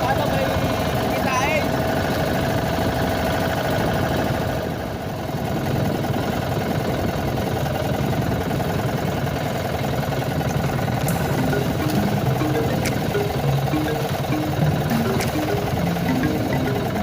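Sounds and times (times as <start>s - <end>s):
small boat engine running: 0.0s - 17.0s.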